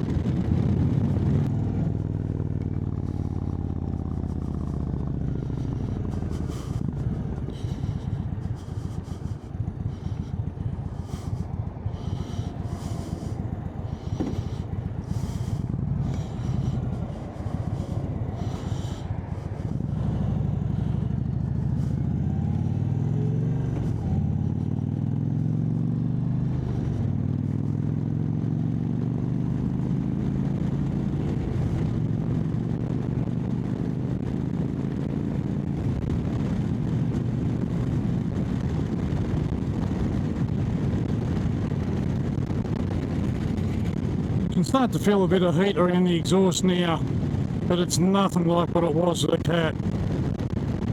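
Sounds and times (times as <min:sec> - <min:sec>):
wind noise: 0:00.0 - 0:22.0, 0:30.2 - 0:50.9
motorcycle engine accelerating: 0:00.0 - 0:50.9.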